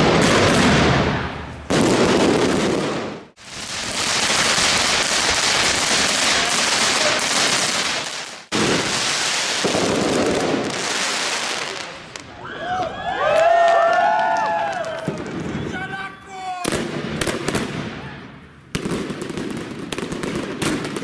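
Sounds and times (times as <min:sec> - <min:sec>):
fireworks crackling and hissing: 0:00.0 - 0:12.4, 0:14.5 - 0:15.8, 0:16.6 - 0:21.0.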